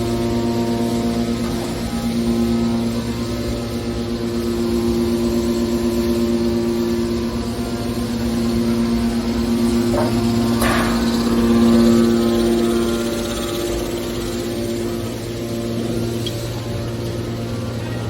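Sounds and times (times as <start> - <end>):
hydraulic baler humming: 0.0 - 18.0.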